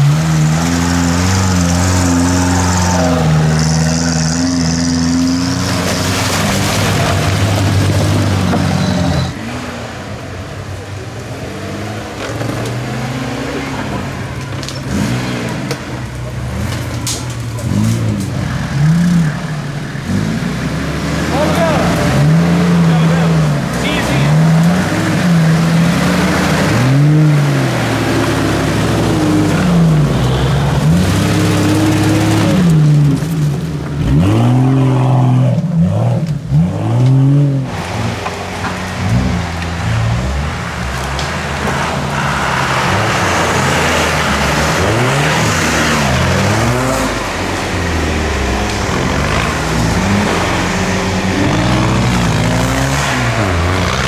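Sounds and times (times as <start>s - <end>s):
suv engines revving: 0.0s - 54.0s.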